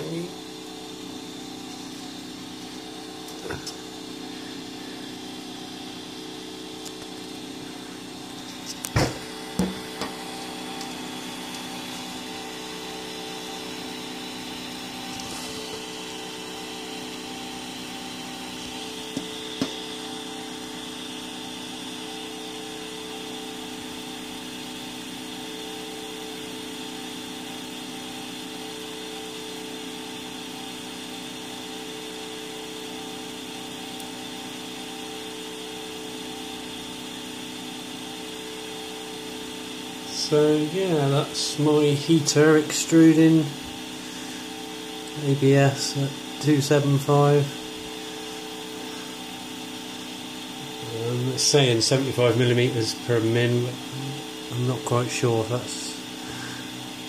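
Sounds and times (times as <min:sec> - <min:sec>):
stepper motor whine: 0:00.0 - 0:57.0.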